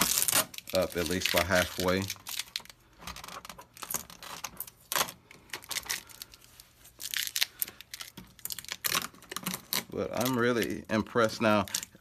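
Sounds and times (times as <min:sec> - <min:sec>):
packing tape being peeled: 0:00.0 - 0:10.8, 0:11.6 - 0:12.0.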